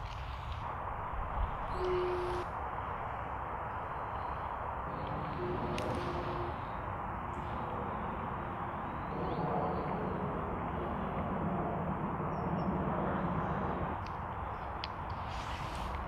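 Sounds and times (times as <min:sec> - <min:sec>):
steady outdoor rushing noise: 0:00.0 - 0:16.0.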